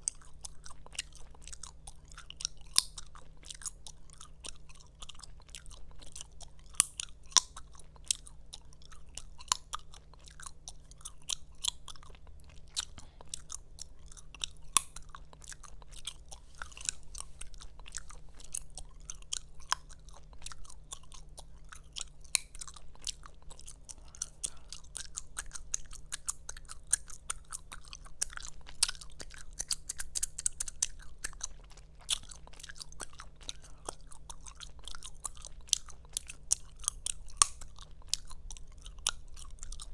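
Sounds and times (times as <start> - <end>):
gum chewing mouth noises: 0.0 - 39.9
gum snapping: 0.0 - 39.9.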